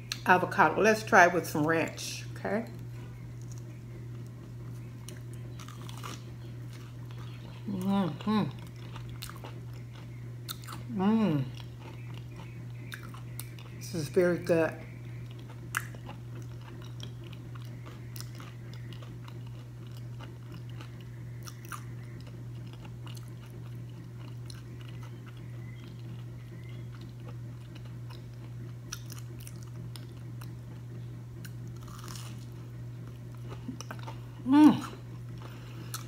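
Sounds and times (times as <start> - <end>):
steady low hum: 0.0 - 36.0
person chewing crisp food: 2.8 - 13.8, 14.9 - 36.0.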